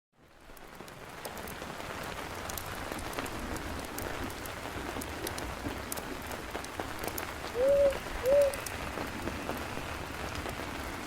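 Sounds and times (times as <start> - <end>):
steady rain falling: 0.1 - 11.0
campfire crackling: 0.2 - 11.0.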